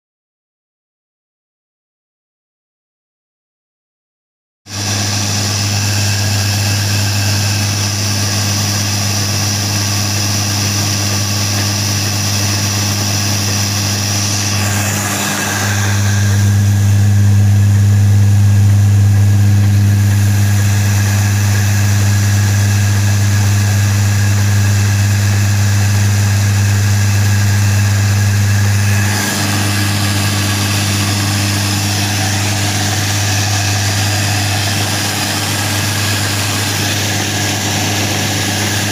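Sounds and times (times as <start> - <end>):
flour mill humming: 4.7 - 38.9.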